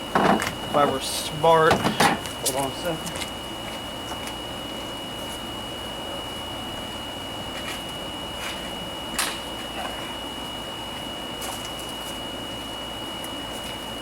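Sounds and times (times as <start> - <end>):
high-pitched whine: 0.0 - 14.0
steady background noise: 0.0 - 14.0.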